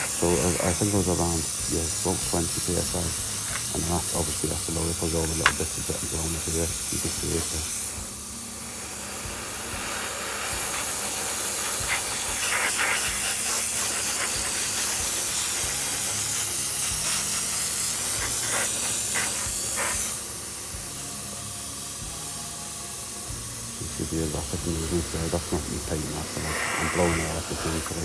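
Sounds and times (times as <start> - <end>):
paint sprayer hissing: 0.0 - 28.0.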